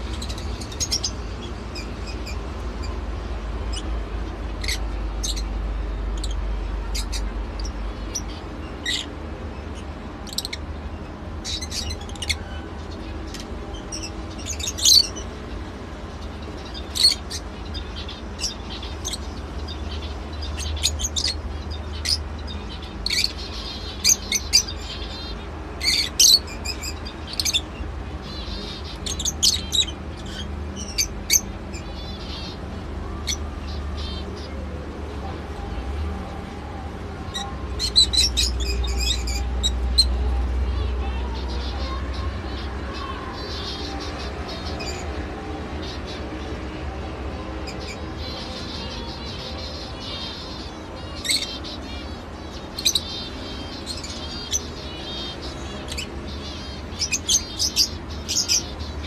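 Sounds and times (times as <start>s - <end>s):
lovebirds chirping: 0.0s - 34.6s, 35.5s - 46.7s, 47.6s - 59.0s.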